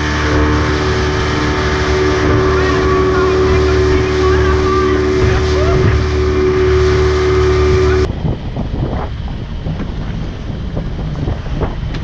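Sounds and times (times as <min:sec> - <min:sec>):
boat engine humming: 0:00.0 - 0:12.0
water splashing: 0:00.0 - 0:12.0
wind buffeting microphone: 0:00.0 - 0:12.0.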